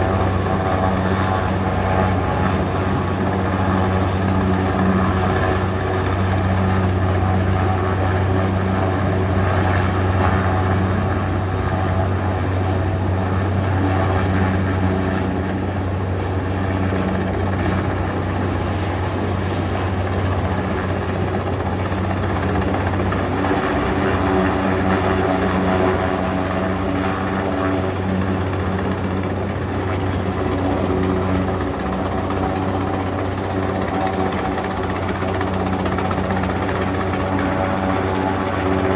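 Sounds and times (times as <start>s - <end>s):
helicopter droning overhead: 0.0s - 38.9s.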